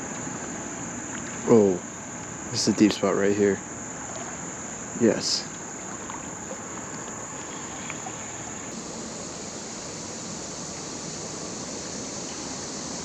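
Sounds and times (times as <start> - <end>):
creek water over rocks: 0.0 - 13.0
high-pitched insect drone: 0.0 - 13.0.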